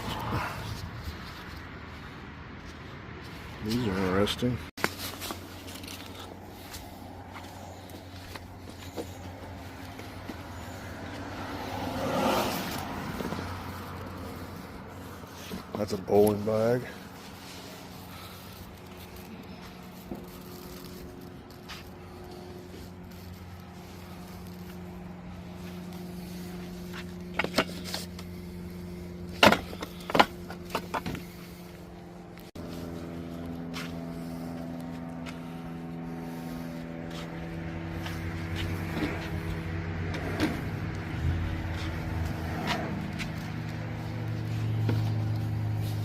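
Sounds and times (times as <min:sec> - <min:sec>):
engine humming: 0:00.0 - 0:46.0.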